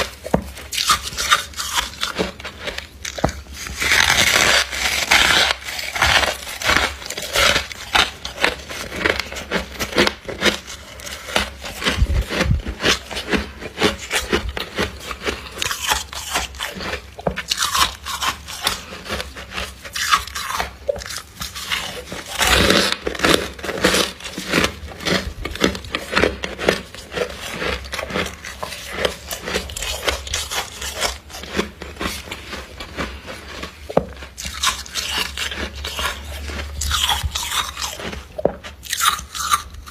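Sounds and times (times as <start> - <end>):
ice being crunched: 0.0 - 39.9.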